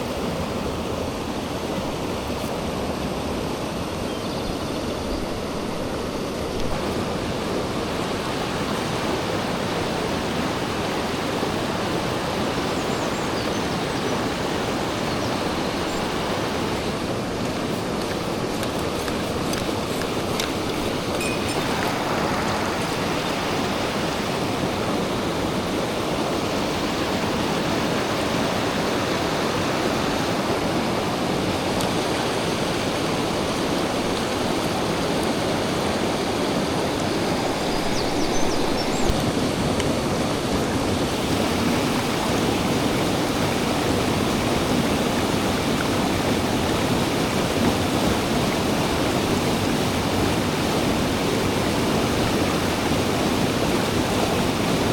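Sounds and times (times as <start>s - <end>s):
mountain stream rushing: 0.0s - 54.9s.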